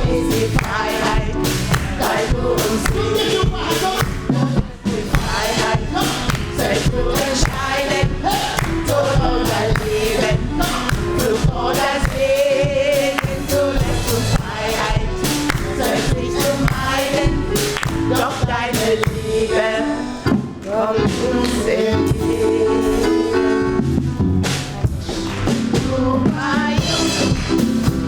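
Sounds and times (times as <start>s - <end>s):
band playing steady beat: 0.0s - 19.6s, 20.3s - 28.0s
gospel singing voices: 0.0s - 28.0s.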